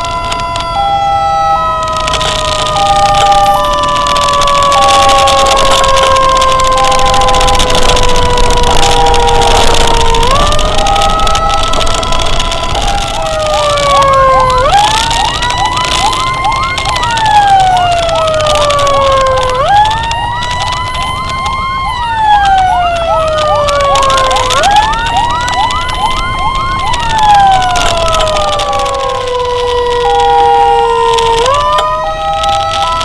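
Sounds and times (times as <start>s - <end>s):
emergency sirens wailing: 0.0s - 33.0s
road noise: 0.0s - 33.0s
siren chirping rapidly: 0.0s - 33.0s.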